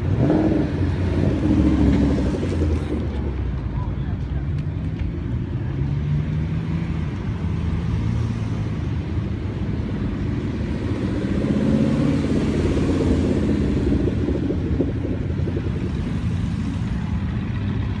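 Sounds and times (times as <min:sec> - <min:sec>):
car engine rumbling and revving: 0:00.0 - 0:18.0.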